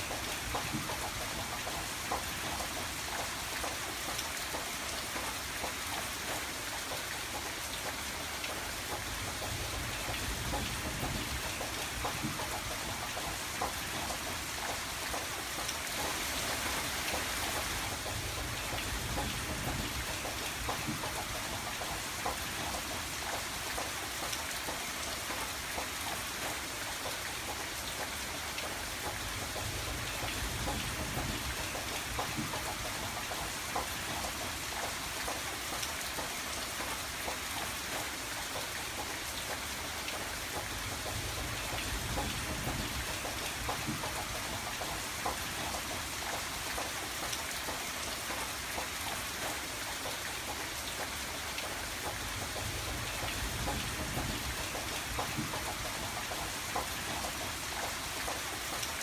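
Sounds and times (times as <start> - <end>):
rain on a window pane: 0.0 - 59.0.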